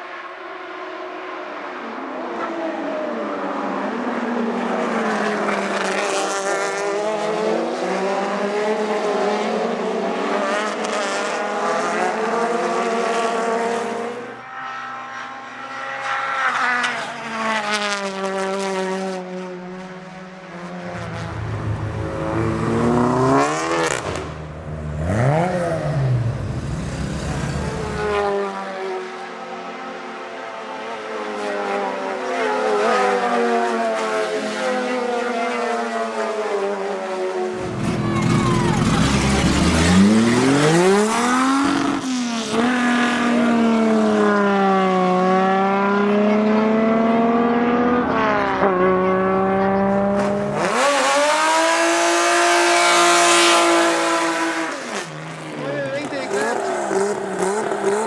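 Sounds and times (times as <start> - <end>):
racing car engines revving: 0.1 - 58.0.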